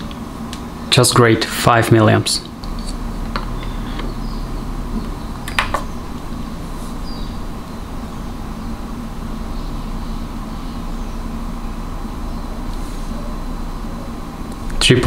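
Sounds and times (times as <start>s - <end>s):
room hum and hiss: 0.0s - 15.0s.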